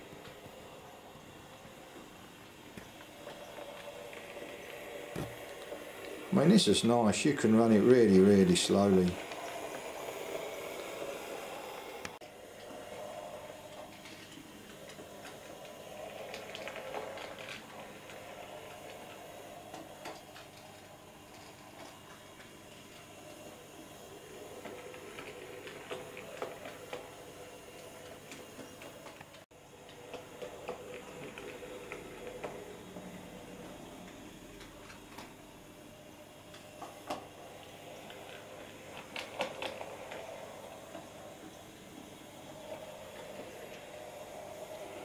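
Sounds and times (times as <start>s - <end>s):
model train motor whirring: 0.0s - 35.7s, 36.3s - 45.0s
wheels clicking on rails: 0.0s - 45.0s.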